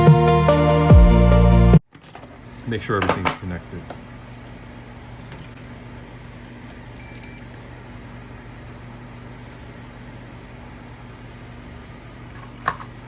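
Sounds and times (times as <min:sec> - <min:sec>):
low electrical hum: 0:01.9 - 0:13.0.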